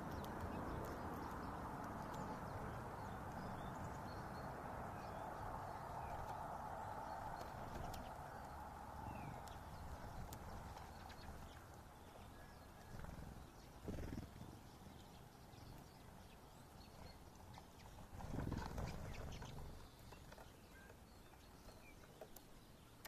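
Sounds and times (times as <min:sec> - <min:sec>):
birds pecking clicks: 0:00.0 - 0:23.0.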